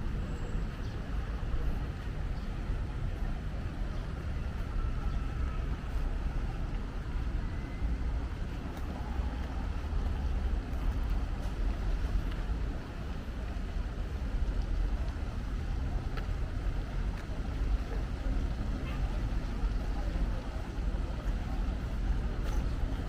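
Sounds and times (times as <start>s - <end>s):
city street traffic rumble: 0.0s - 23.0s.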